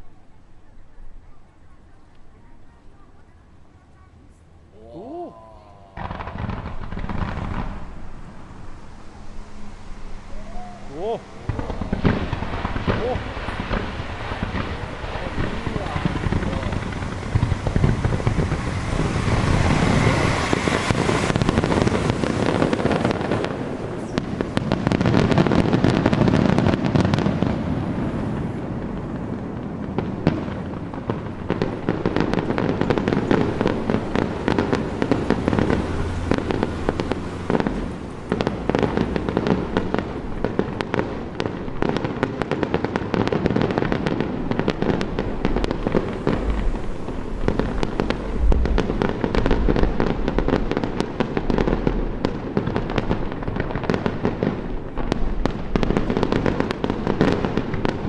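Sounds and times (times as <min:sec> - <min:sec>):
fireworks crackling: 0:00.0 - 0:58.0
fireworks booming: 0:04.1 - 0:58.0.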